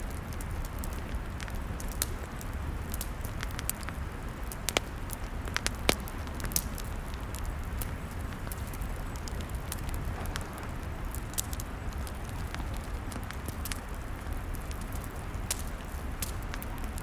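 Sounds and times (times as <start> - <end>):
log fire crackling and popping: 0.0 - 17.0.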